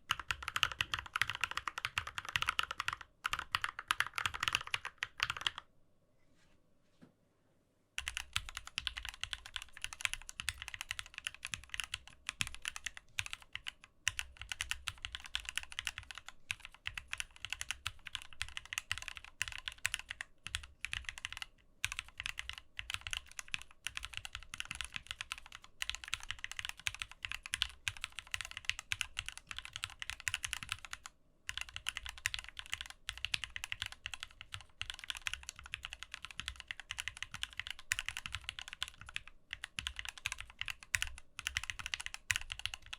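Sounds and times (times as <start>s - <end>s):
mechanical keyboard typing: 0.1s - 5.6s, 8.0s - 42.9s.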